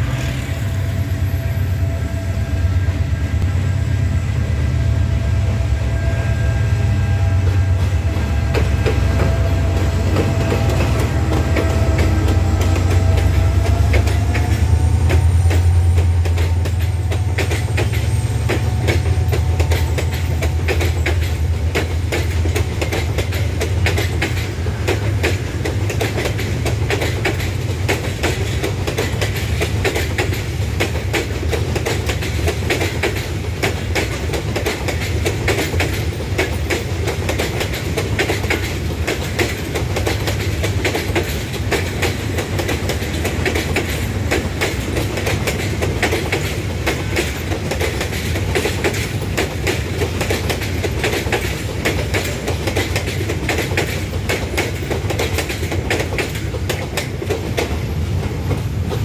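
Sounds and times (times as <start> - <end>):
diesel locomotive engine drone: 0.0 - 59.0
train wheels clattering over rail joints: 7.1 - 59.0.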